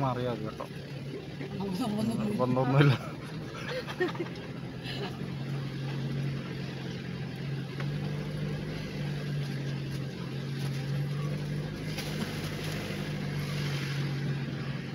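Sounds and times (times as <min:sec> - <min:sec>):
vehicle engine running: 0:00.0 - 0:14.9.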